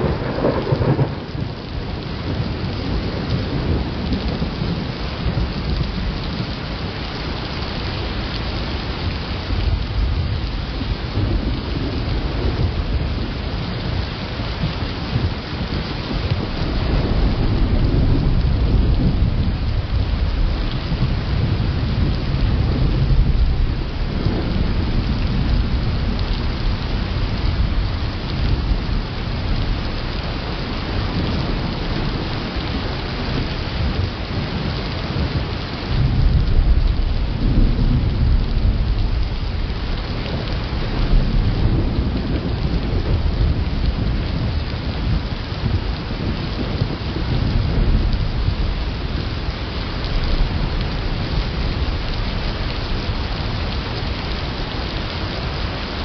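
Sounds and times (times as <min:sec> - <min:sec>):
rolling thunder: 0:00.0 - 0:07.0, 0:08.0 - 0:56.0
steady rain: 0:00.0 - 0:56.0.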